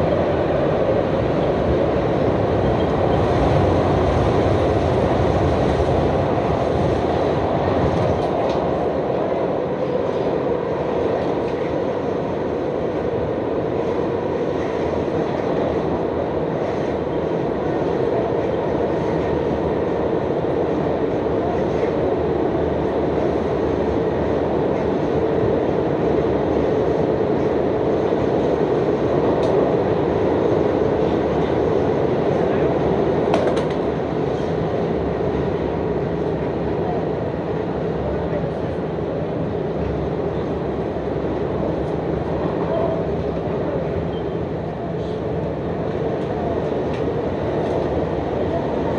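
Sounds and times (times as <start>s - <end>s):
subway train ride noise: 0.0s - 48.9s.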